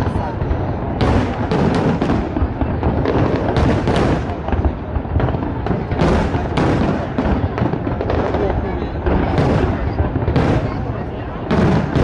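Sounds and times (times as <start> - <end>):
fireworks deep booms: 0.0 - 12.0
sharp firework bangs: 0.0 - 12.0.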